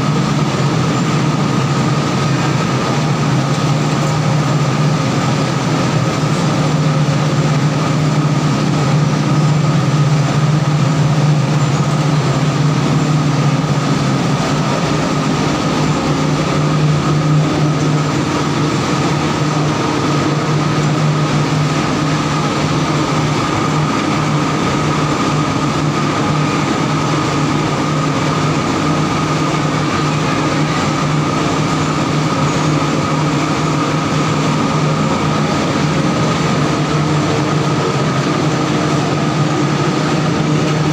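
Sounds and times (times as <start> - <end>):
low hum: 0.0 - 40.9
oil expeller machines droning: 0.0 - 40.9.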